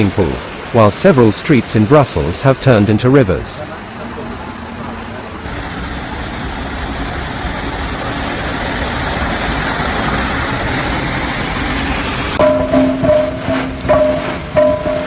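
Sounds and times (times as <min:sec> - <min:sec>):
water rushing from car tyres: 0:00.0 - 0:12.4
engine rumble: 0:01.7 - 0:15.0.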